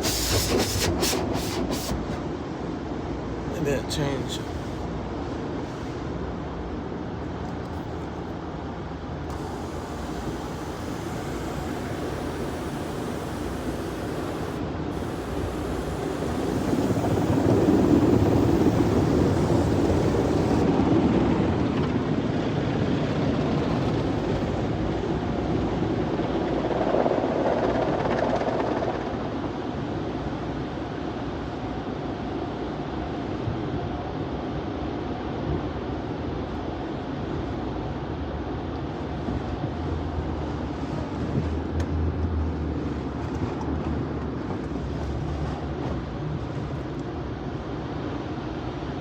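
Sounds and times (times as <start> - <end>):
rushing noise inside truck cab: 0.0 - 49.0.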